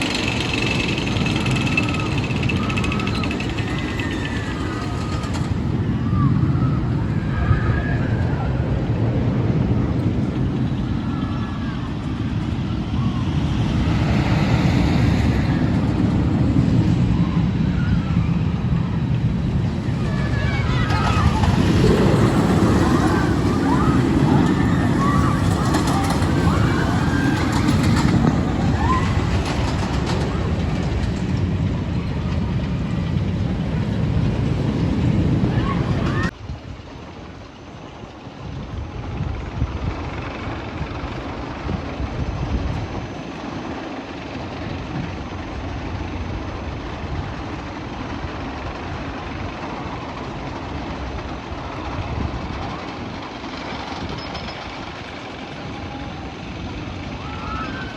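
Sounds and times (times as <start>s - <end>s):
roller coaster rumbling on track: 0.0s - 57.9s
wind on microphone: 0.0s - 57.9s.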